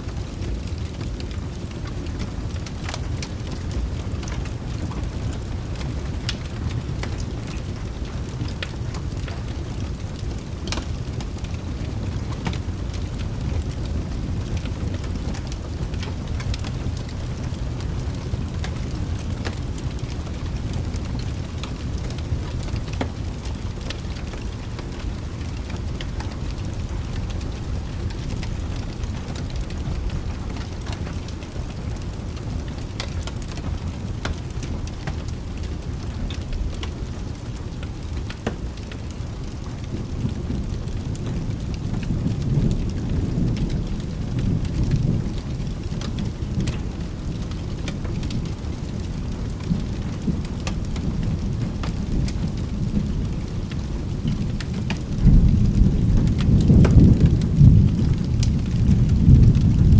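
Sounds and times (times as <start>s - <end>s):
rolling thunder: 0.0s - 59.9s
steady rain: 0.0s - 59.9s.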